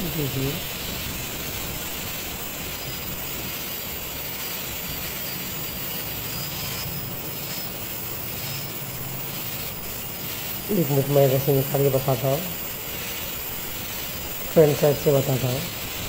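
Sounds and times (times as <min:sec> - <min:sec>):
angle grinder polishing stone: 0:00.0 - 0:16.0.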